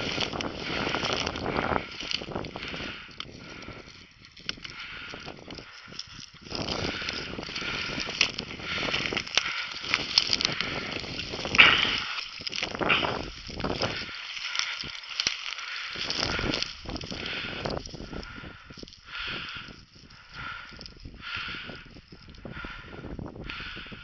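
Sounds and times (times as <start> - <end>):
dry vegetation rustling and crunching: 0.0 - 23.9.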